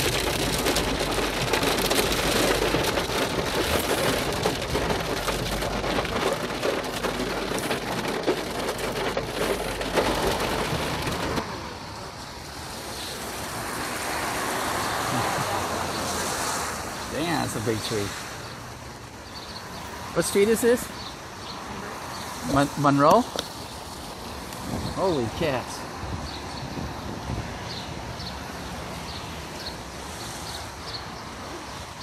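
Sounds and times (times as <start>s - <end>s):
heavy rain on car roof: 0.0s - 32.0s
outdoor background noise: 0.0s - 32.0s.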